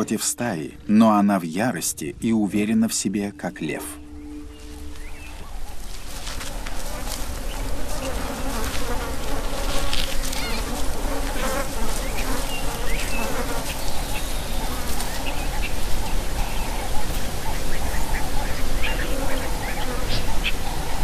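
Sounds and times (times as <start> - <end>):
flies buzzing: 2.3 - 21.0.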